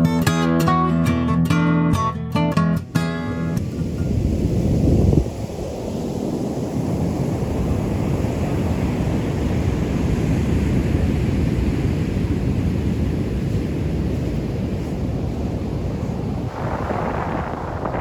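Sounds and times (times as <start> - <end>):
ocean waves washing onto beach: 2.9 - 18.0
wind buffeting microphone: 2.9 - 18.0.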